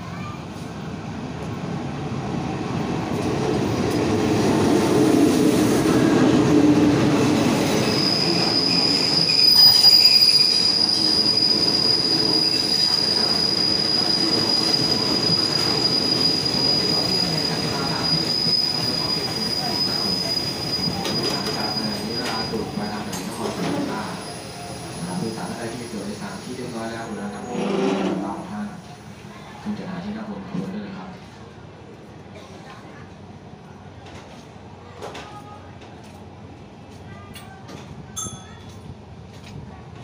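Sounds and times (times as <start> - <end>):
train coaches rumbling past: 0.0 - 40.0.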